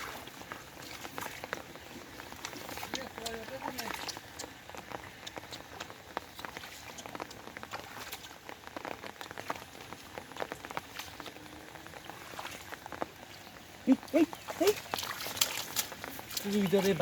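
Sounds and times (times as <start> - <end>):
raindrops ticking: 0.0 - 17.0
steady rain hiss: 0.0 - 17.0.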